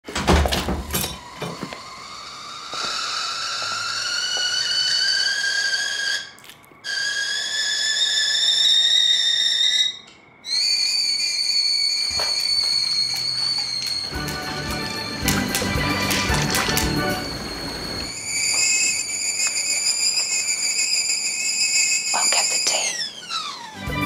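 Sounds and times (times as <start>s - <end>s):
shrill kettle-like whistle: 1.0s - 24.0s.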